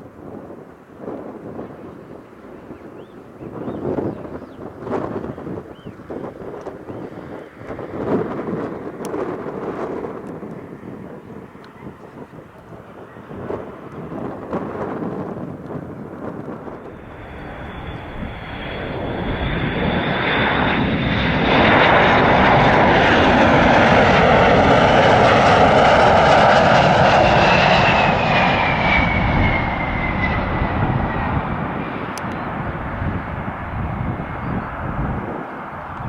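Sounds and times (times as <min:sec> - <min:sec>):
high jet engine whine: 0:00.0 - 0:36.0
jet engines on approach: 0:00.0 - 0:36.0.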